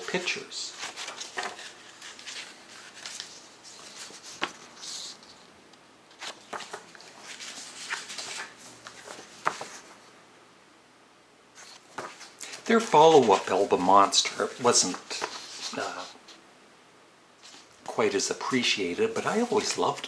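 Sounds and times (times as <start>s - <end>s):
paper and card rustling: 0.1s - 5.5s, 6.1s - 10.0s, 11.6s - 16.4s, 17.4s - 20.0s.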